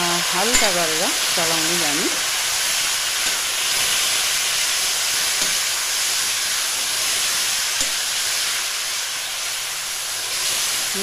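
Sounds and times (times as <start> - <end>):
tomatoes sizzling in oil: 0.0 - 11.0.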